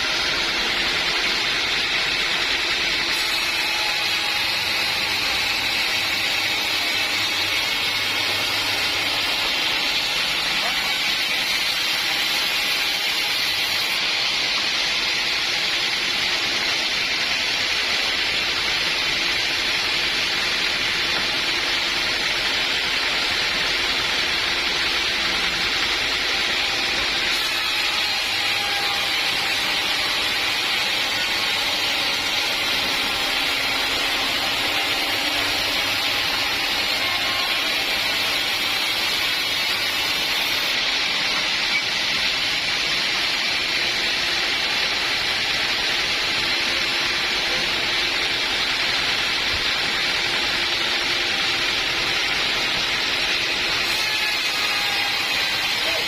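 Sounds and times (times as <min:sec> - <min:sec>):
sawmill machinery hissing: 0:00.0 - 0:56.0.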